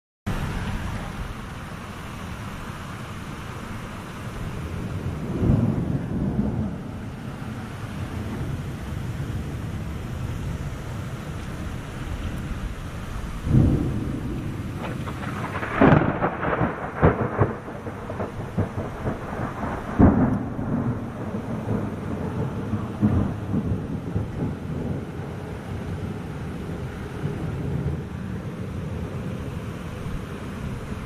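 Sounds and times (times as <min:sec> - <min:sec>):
rain hissing: 0:00.3 - 0:31.0
thunder rumbling and cracking: 0:04.5 - 0:29.4.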